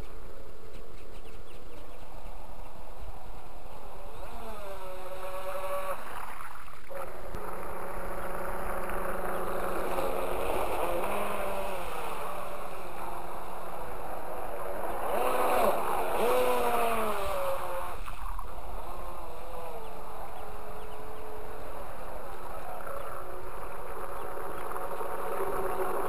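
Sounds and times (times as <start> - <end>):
model boat motor whining: 0.0 - 26.0
water noise: 0.0 - 26.0
wind: 0.0 - 26.0.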